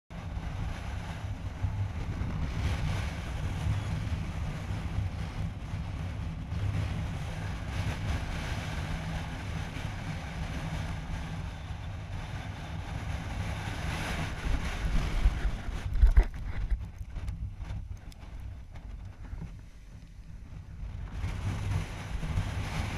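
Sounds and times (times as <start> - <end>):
wind on microphone: 0.1 - 22.9
motorcycle riding on dirt road: 0.2 - 22.9.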